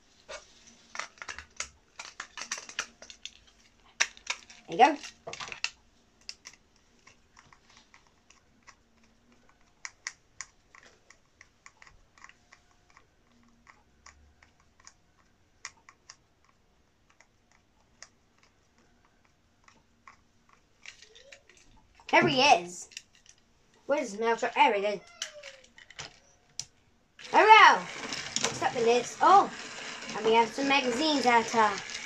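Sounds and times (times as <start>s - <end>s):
plastic toy being handled: 0.1s - 23.9s, 24.5s - 32.0s.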